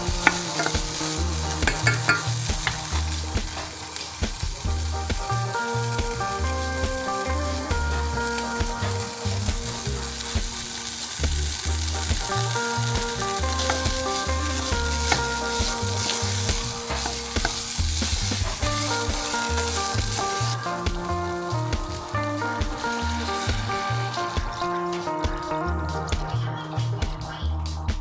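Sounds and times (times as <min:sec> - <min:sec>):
food sizzling in a frying pan: 0:00.0 - 0:26.6
soft background music: 0:00.0 - 0:28.0.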